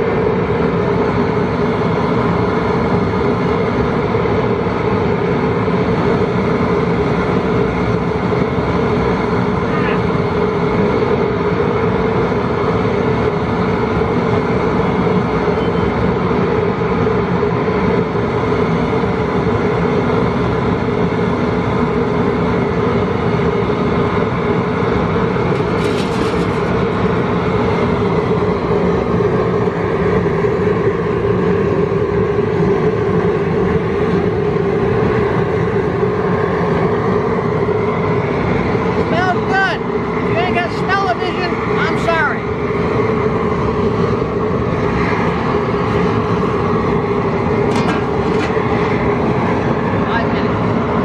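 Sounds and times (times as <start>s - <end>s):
propane burner roaring: 0.0s - 51.0s.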